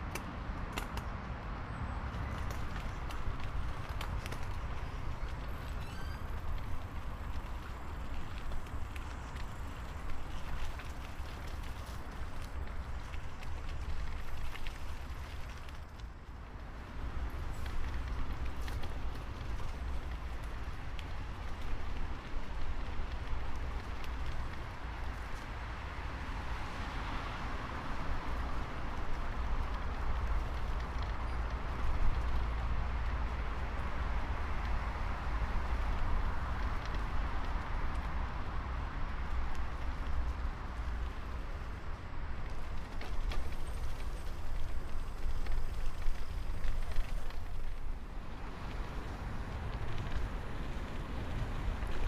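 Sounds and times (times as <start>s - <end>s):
wind buffeting microphone: 2.0s - 52.0s.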